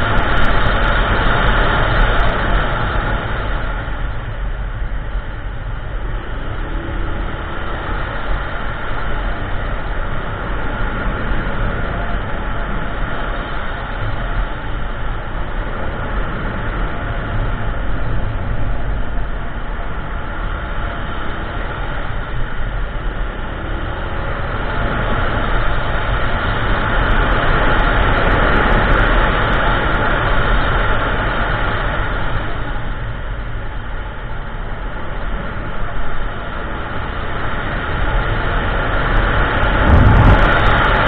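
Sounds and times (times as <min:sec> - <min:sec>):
scooter engine drone: 0:00.0 - 0:41.0
wind rush on microphone: 0:00.0 - 0:41.0.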